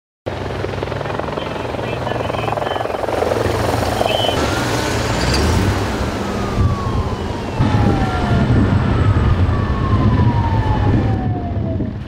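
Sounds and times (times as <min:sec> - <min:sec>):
heavy engine and road rumble: 0:00.3 - 0:12.0
emergency vehicle siren wailing: 0:00.6 - 0:12.0.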